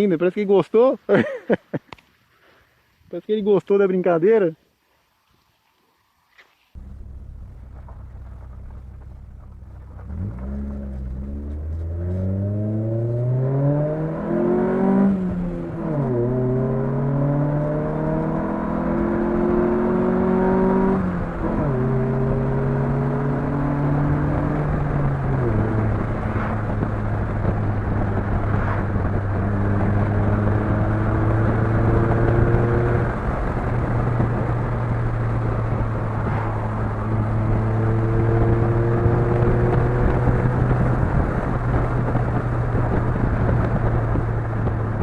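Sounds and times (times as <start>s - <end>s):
car engine accelerating hard: 6.8s - 45.0s.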